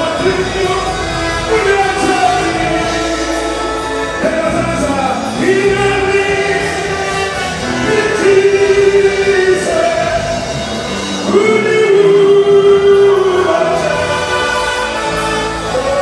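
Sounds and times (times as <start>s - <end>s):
choir singing long notes: 0.0s - 16.0s.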